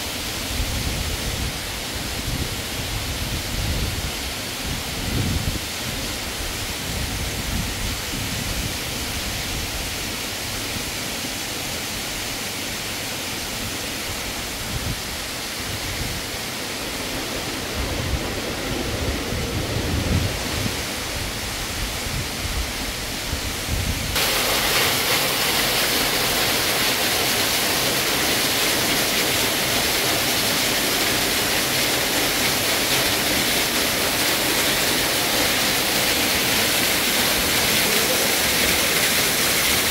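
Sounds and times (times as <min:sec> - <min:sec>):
rushing outdoor noise: 0:00.0 - 0:39.9.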